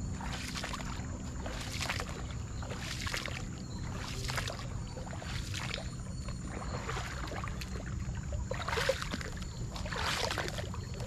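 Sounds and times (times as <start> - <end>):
low steady rumble: 0.0 - 11.0
paddle splashing through water: 0.0 - 11.0
water trickling: 0.0 - 11.0.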